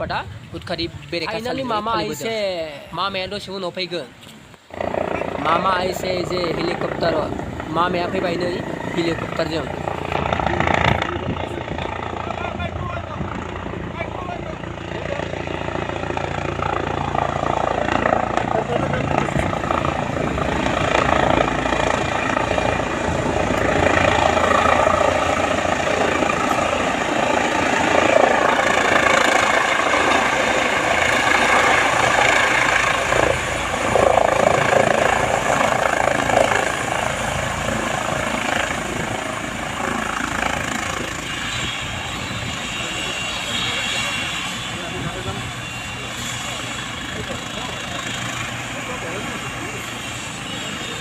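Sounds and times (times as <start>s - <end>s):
helicopter engine and rotor: 0.0s - 51.0s.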